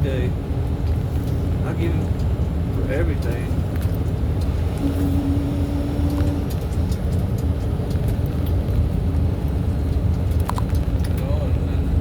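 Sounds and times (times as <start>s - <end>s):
semi truck engine drone: 0.0s - 12.0s.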